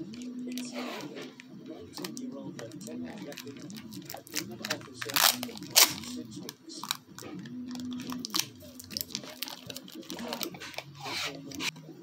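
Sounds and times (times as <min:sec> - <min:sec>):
tape crinkling and crackling: 0:00.0 - 0:11.8.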